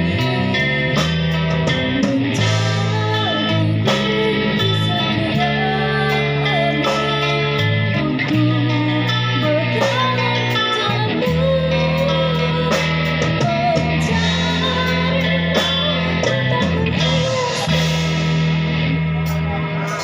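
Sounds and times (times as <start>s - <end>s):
live band music led by guitar: 0.0s - 20.0s
steady bass line: 0.0s - 20.0s.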